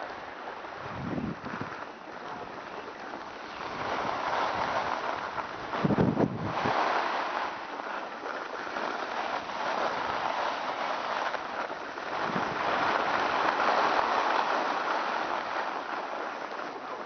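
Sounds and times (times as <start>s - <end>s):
wind rushing past microphone: 0.0s - 7.9s, 9.0s - 15.5s
skis scraping over snow: 0.0s - 17.0s.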